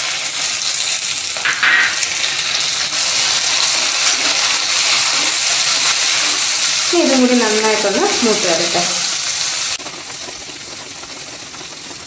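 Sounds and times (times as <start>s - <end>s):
shallots sizzling in hot oil: 0.0s - 12.0s.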